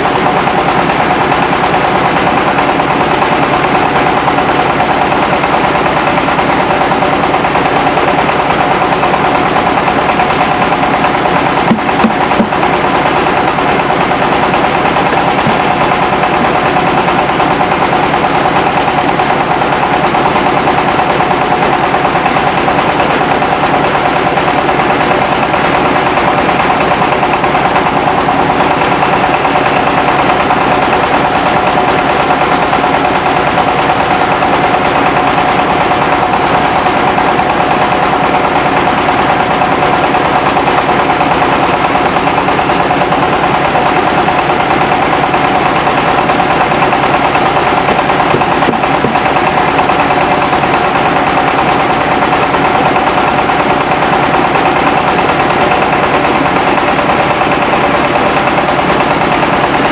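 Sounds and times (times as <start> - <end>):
rice-milling machine running: 0.0 - 59.9.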